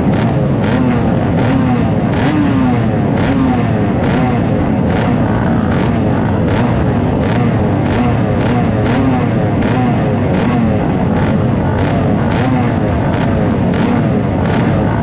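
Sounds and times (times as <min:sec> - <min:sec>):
small motorcycle engines running: 0:00.0 - 0:15.0
two-stroke engine revving: 0:00.0 - 0:15.0.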